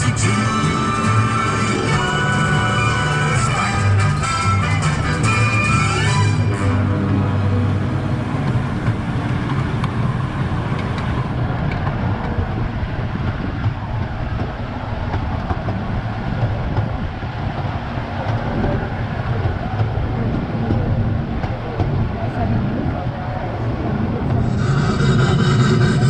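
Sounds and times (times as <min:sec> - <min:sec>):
train cars rolling rumble: 0:00.0 - 0:26.0.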